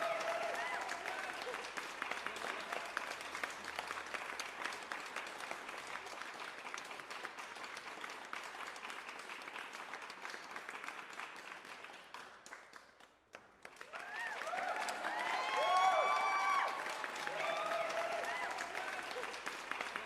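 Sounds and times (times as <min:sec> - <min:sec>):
applause: 0:00.0 - 0:20.0.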